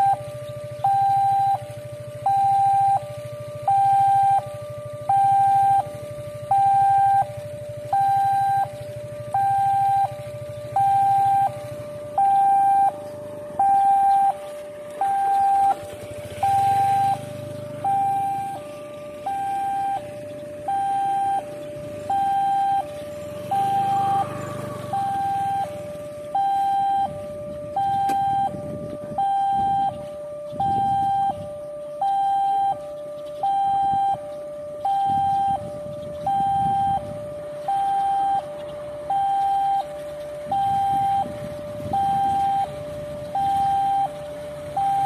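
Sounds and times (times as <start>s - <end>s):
level crossing two-tone siren: 0.0s - 45.0s.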